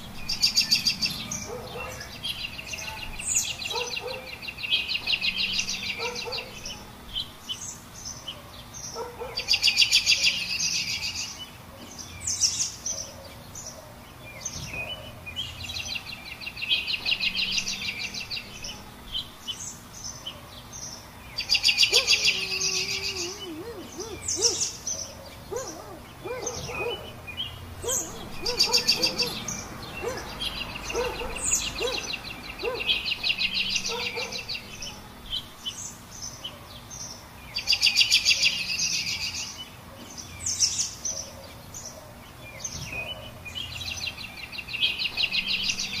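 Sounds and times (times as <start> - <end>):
songbirds chirping and trilling: 0.0 - 46.0.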